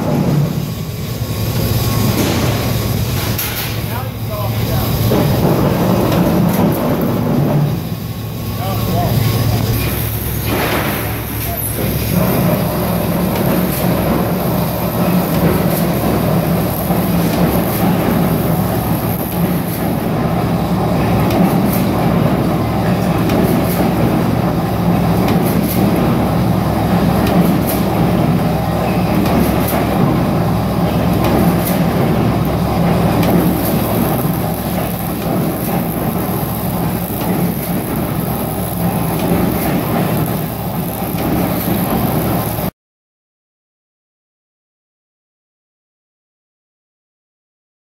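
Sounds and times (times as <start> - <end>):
punch press humming and clattering: 0.0 - 42.7.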